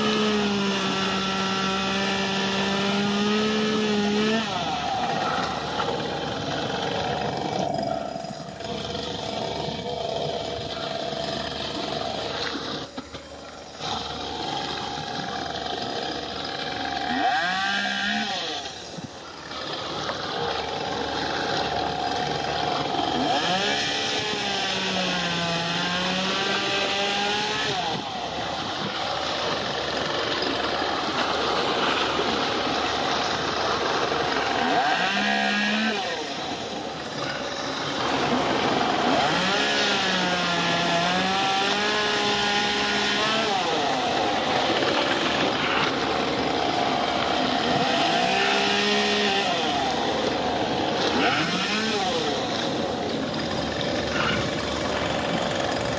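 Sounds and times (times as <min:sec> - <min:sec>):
small engines revving: 0:00.0 - 0:55.9.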